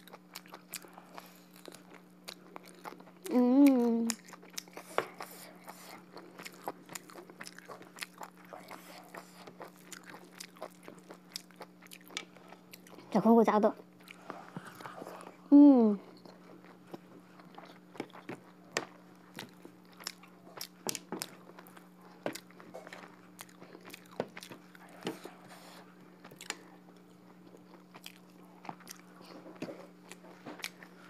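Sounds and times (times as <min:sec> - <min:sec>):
close chewing with mouth clicks: 0:00.0 - 0:13.2, 0:13.9 - 0:15.4, 0:16.0 - 0:31.0
faint steady hum: 0:00.0 - 0:31.0.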